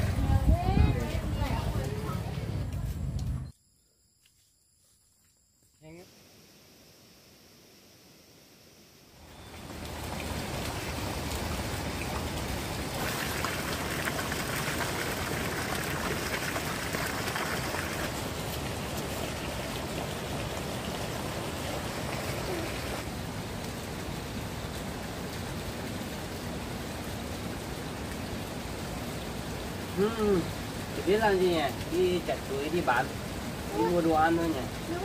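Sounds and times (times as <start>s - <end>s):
pattering water noise: 0.0s - 2.6s, 9.0s - 35.0s.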